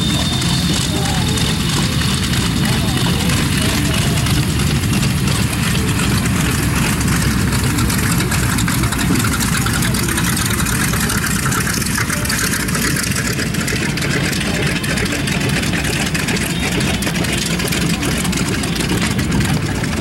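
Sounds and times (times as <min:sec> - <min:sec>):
aircraft propeller engines running: 0:00.0 - 0:20.0.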